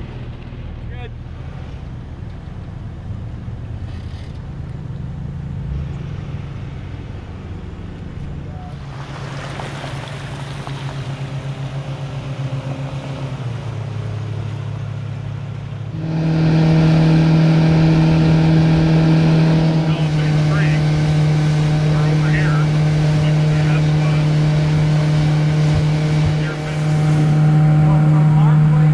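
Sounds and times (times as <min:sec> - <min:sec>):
outboard motor running: 0:00.0 - 0:28.9
water rushing and spray: 0:05.1 - 0:28.9.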